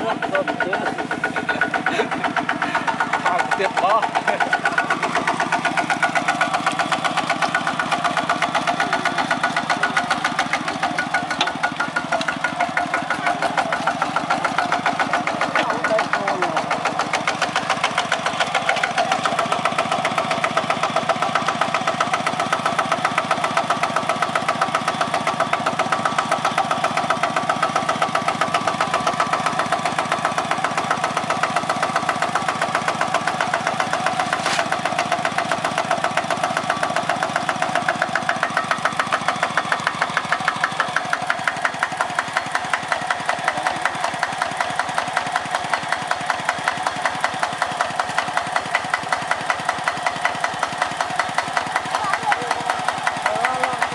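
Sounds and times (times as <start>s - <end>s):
diesel tractor engine chugging: 0.0s - 53.9s.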